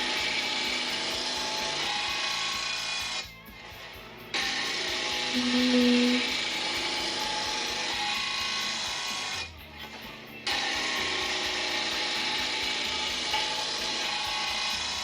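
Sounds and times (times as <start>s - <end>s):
grinding wheel sharpening blade: 0.0s - 15.0s.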